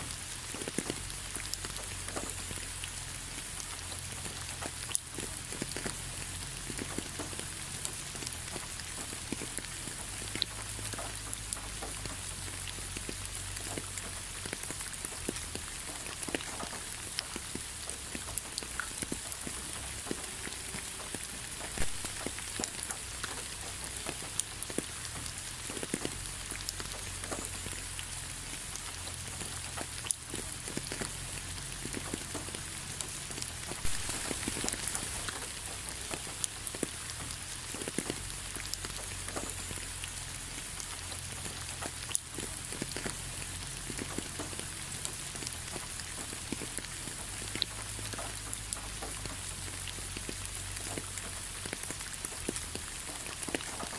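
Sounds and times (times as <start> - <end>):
raindrops tapping: 0.0 - 53.9
steady rain hiss: 0.0 - 53.9.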